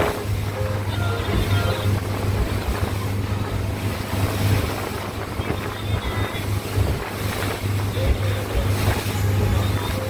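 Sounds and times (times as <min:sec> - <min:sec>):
speedboat motor running: 0:00.0 - 0:10.0
water rushing: 0:00.0 - 0:10.0
wind buffeting microphone: 0:00.0 - 0:10.0.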